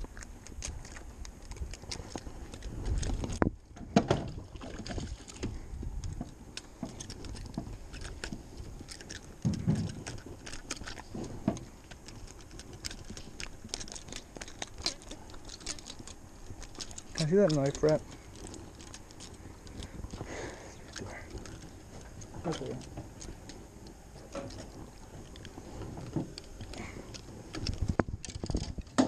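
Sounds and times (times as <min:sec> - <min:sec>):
fish splashing and flapping: 0:00.0 - 0:23.3.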